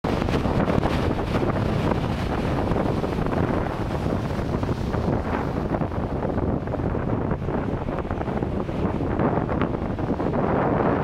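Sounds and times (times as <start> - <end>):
wind buffeting microphone: 0.0 - 11.0
surf breaking on stony beach: 0.1 - 11.0.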